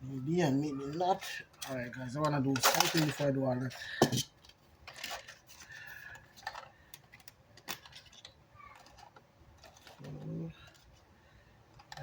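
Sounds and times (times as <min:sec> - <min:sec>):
small parts and tools clicking: 0:00.9 - 0:11.1, 0:11.7 - 0:12.0.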